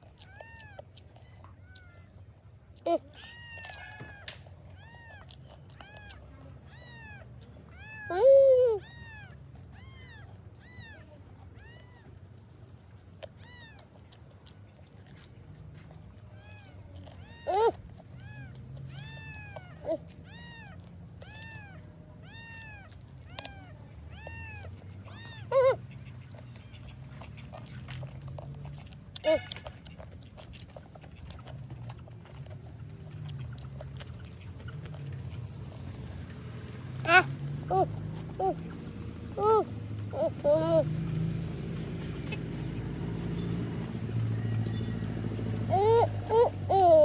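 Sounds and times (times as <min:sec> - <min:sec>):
animal crying: 0:00.0 - 0:02.2, 0:02.8 - 0:12.2, 0:16.2 - 0:27.7, 0:28.3 - 0:35.8, 0:36.7 - 0:41.0, 0:43.3 - 0:47.0.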